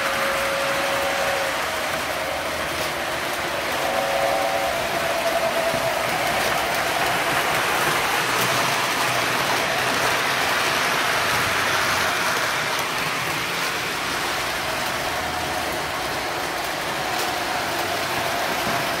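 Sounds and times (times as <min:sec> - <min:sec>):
model trains rattling on track: 0:00.0 - 0:19.0.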